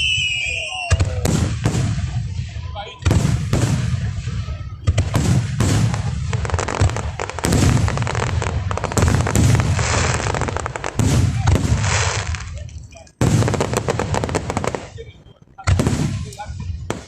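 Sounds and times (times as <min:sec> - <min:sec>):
fireworks booming: 0:00.0 - 0:17.0
fireworks popping and crackling: 0:00.0 - 0:17.0.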